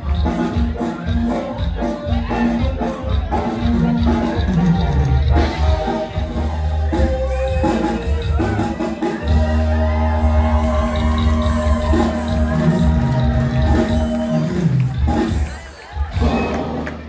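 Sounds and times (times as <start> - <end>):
mariachi band playing: 0.0 - 17.0.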